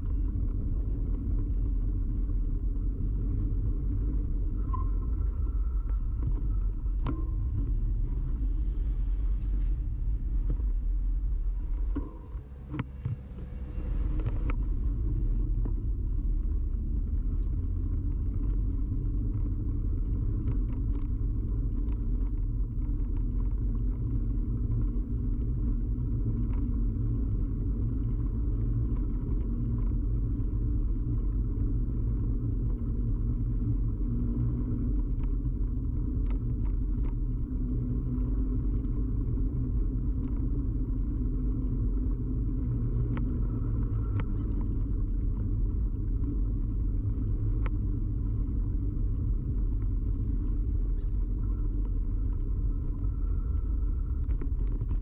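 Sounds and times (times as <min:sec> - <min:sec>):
bicycle riding rumble and rattle: 0:00.0 - 0:55.0.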